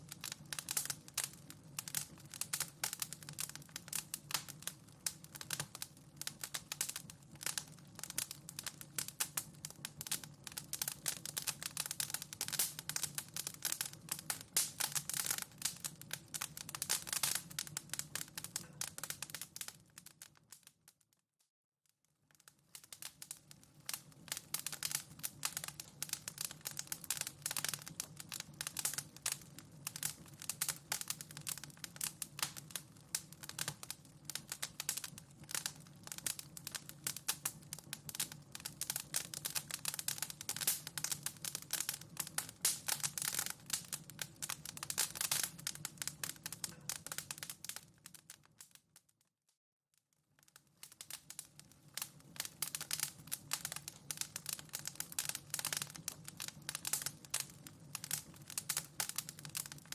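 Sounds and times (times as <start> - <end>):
wood fire crackling and popping: 0.0 - 21.1, 22.1 - 49.2, 50.4 - 59.9.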